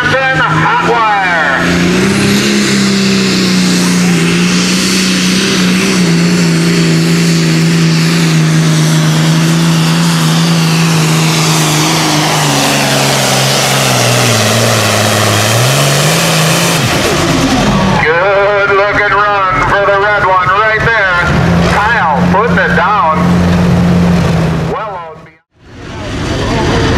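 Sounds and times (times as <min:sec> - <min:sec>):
tractor diesel engine at full throttle: 0:00.0 - 0:26.9.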